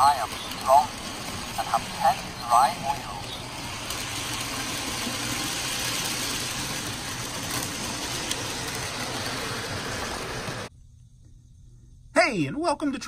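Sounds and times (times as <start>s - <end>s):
model train motor whirring: 0.0s - 10.7s.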